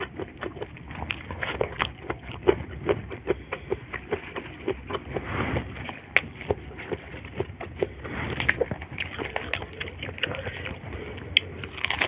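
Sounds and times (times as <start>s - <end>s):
mouth chewing with wet smacking: 0.0s - 12.0s.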